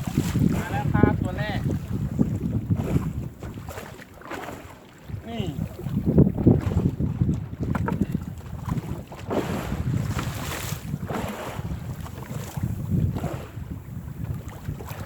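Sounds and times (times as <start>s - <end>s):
water splashing against boat: 0.0s - 15.0s
wind buffeting microphone: 0.0s - 15.0s.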